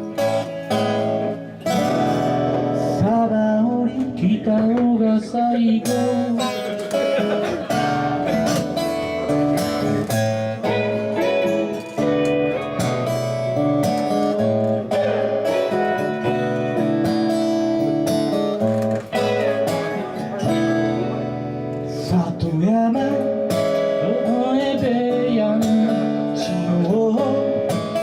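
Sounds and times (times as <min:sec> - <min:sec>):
guitar strummed and picked: 0:00.0 - 0:28.0.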